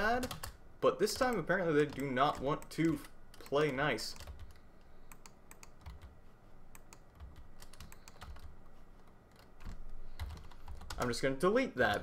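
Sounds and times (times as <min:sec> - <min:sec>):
keyboard and mouse clicking: 0:01.2 - 0:11.1.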